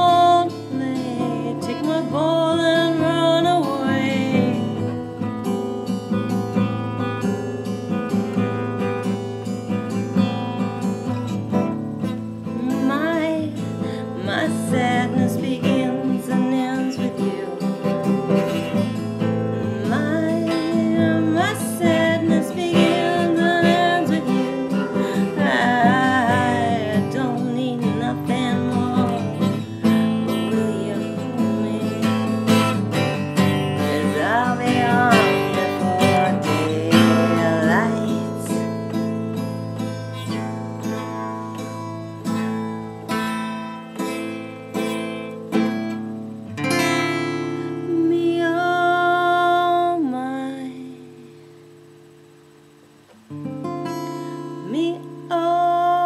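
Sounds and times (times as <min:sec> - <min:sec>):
woman singing: 0:00.0 - 0:06.7, 0:10.0 - 0:42.6, 0:47.2 - 0:51.7, 0:54.3 - 0:56.0
acoustic guitar strumming: 0:00.0 - 0:56.0.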